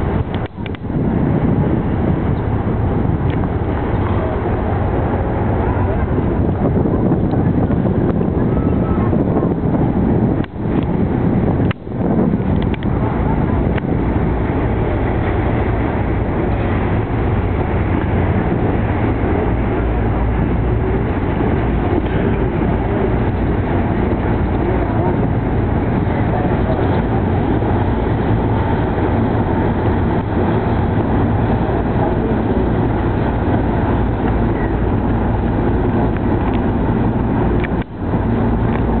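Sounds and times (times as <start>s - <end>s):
boat engine rumble: 0.0s - 39.0s
water wash: 0.0s - 39.0s.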